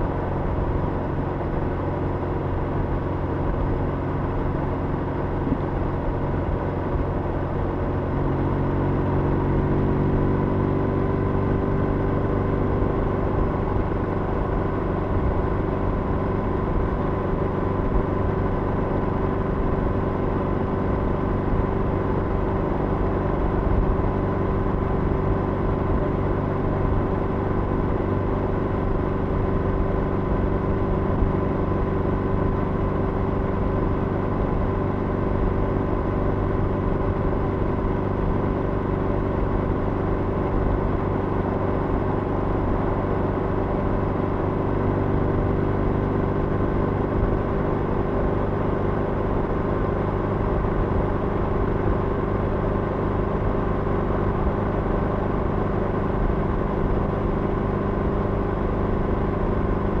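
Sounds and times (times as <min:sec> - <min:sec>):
road noise: 0:00.0 - 1:00.0.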